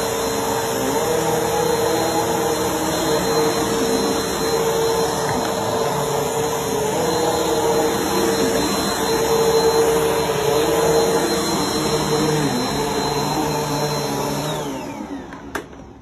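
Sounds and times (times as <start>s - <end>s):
vacuum motor spinning down: 0.0s - 15.5s
vacuum cleaner running on carpet: 0.0s - 15.7s.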